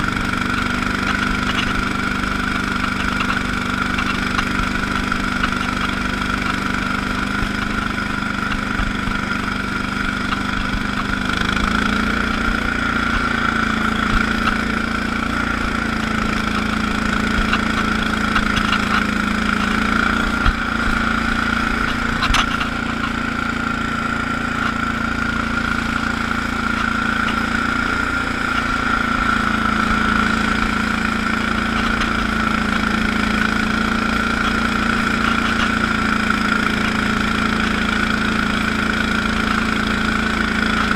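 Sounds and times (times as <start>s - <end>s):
garden tractor engine running: 0.0s - 40.9s.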